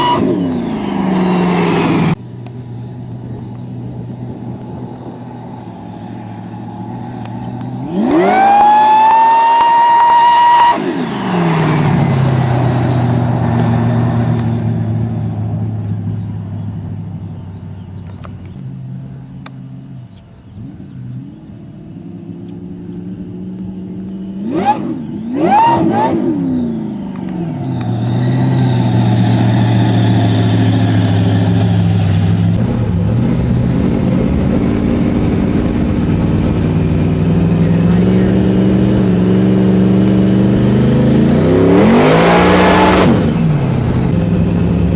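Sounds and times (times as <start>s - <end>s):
engine idling and revving: 0.0s - 44.9s.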